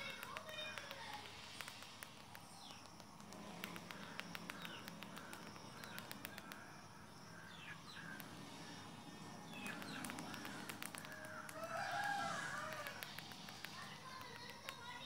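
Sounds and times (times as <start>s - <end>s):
light clicks and ticks: 0.0s - 6.8s, 7.8s - 15.0s
birds calling: 0.0s - 15.0s.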